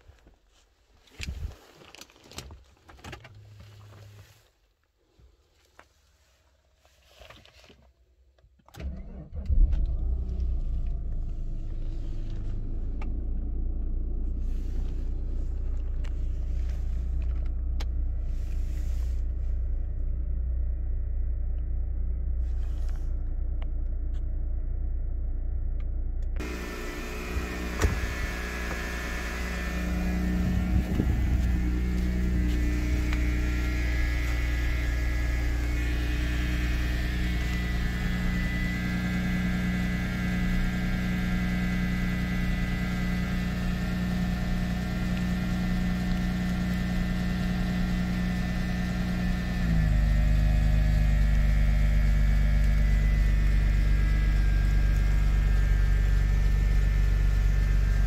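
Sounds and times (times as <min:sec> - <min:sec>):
car engine idling: 0:09.1 - 0:58.0.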